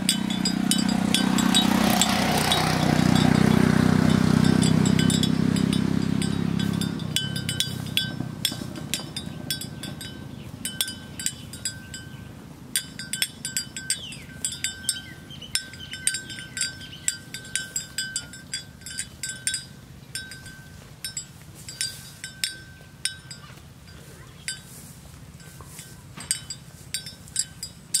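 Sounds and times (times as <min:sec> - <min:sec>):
animal bell clinking: 0:00.0 - 0:28.0.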